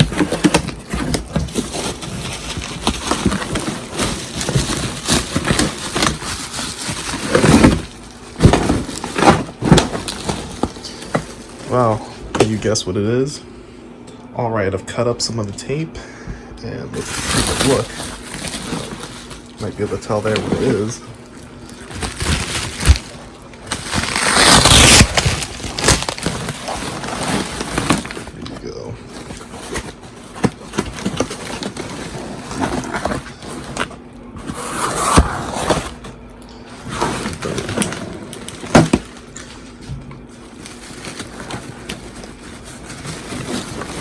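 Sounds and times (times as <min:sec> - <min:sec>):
cardboard box crackling and rustling: 0:00.0 - 0:12.7, 0:16.9 - 0:44.0.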